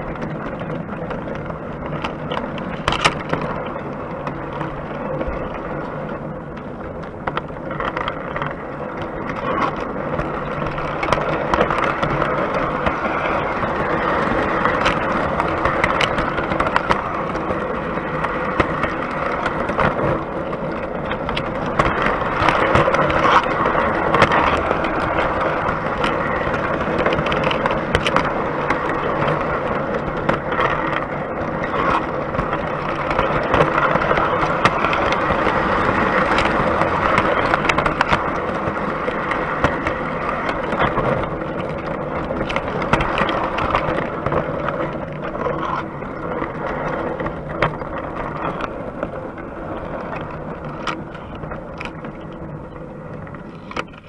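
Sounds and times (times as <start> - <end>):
model train wheels rumbling on track: 0.0 - 54.0.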